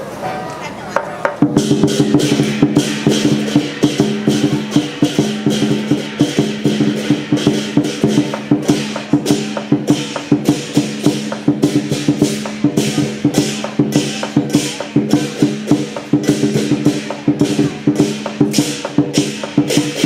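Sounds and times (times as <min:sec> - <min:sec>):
drum and cymbal strikes: 0:01.0 - 0:20.0.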